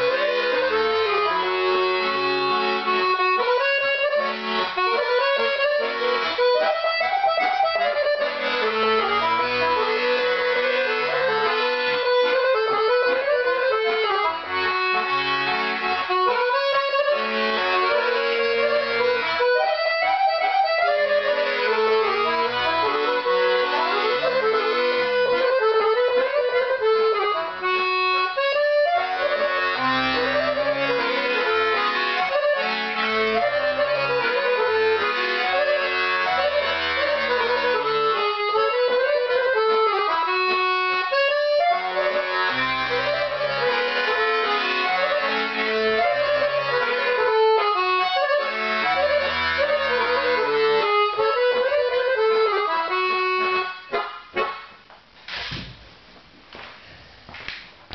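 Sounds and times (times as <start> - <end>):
accordion playing folk tune: 0.0 - 55.5.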